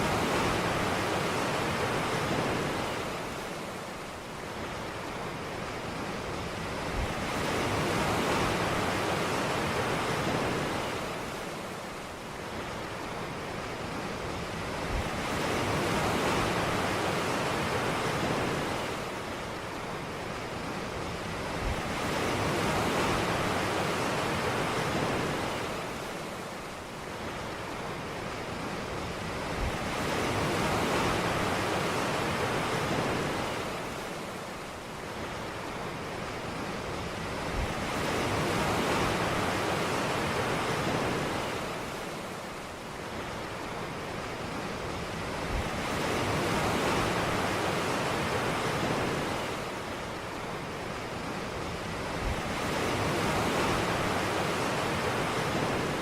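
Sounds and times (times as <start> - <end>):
ocean waves on beach: 0.0 - 56.0.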